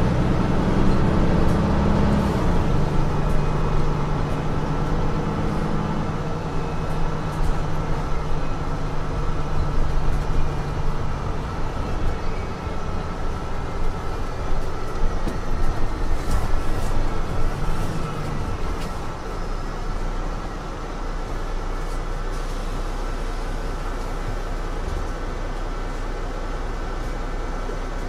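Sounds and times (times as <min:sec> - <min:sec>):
bus engine hum: 0:00.0 - 0:28.0
rolling road noise: 0:00.0 - 0:28.0.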